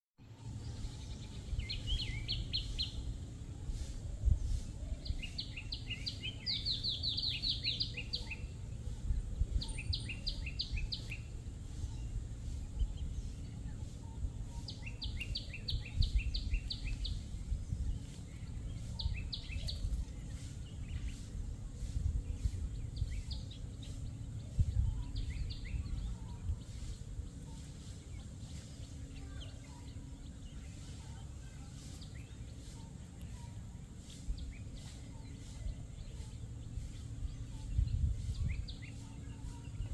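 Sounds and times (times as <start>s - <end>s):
low rumble of outdoor noise: 0.2s - 39.9s.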